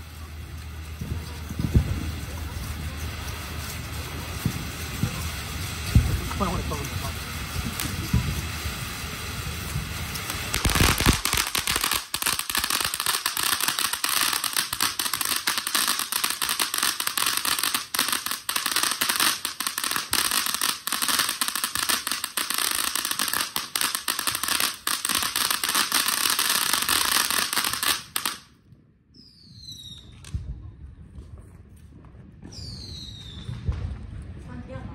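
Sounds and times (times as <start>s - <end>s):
firework fountain crackling: 0.0s - 28.7s, 31.2s - 34.9s.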